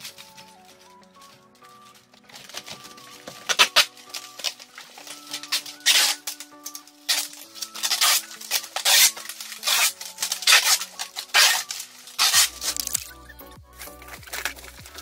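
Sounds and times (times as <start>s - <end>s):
packing tape ripping off roll: 0.0s - 13.2s, 13.8s - 15.0s
soft background music: 0.0s - 15.0s.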